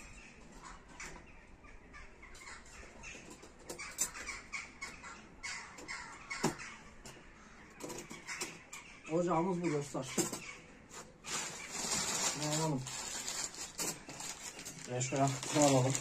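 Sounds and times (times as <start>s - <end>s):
harsh bird calls: 0.0s - 16.0s.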